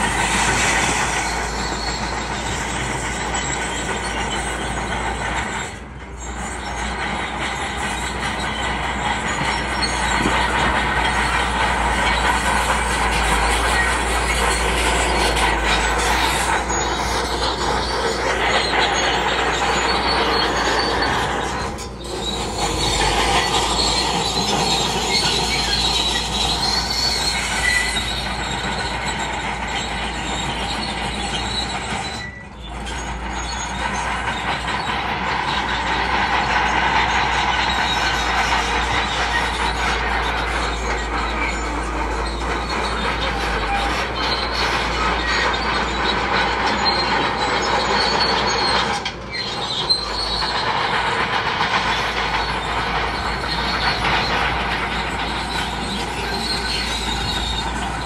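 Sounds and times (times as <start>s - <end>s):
bulldozer engine under load: 0.0s - 58.0s
steel tracks squealing and clanking: 0.0s - 58.0s.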